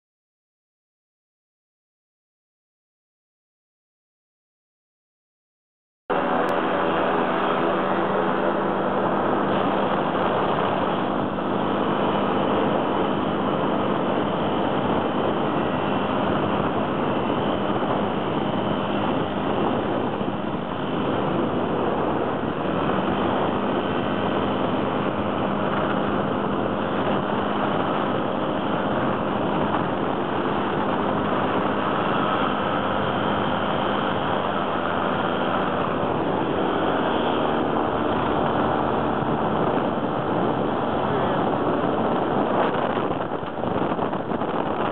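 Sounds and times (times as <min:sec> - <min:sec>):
light aircraft engine running: 0:06.1 - 0:44.9.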